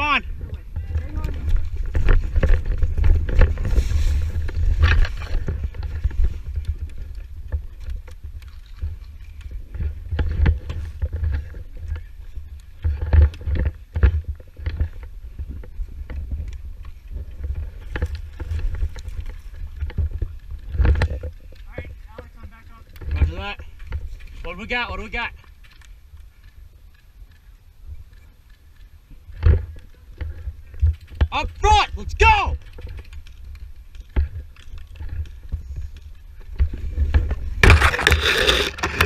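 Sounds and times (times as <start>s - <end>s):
wind buffeting camera: 0.0s - 39.0s.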